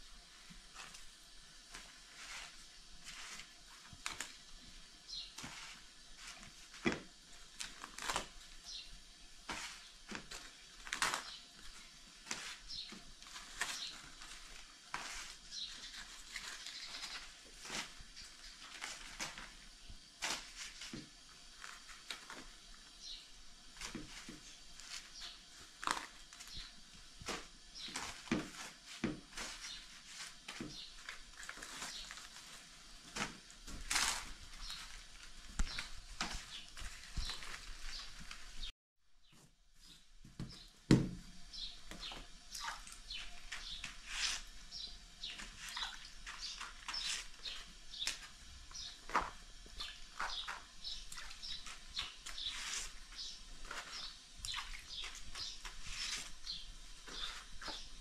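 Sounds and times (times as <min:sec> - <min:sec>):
flatbread sheets rustling and crackling: 0:00.0 - 0:58.0.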